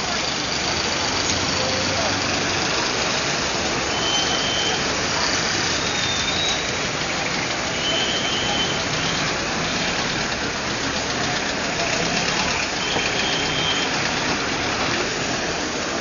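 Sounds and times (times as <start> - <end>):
car and truck engines running: 0.0 - 16.0.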